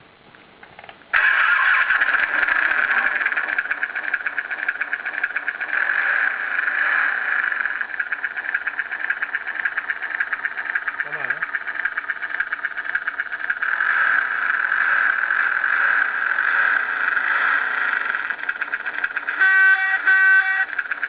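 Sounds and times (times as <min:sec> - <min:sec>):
motorcycle engine sound effect: 0:01.1 - 0:21.0.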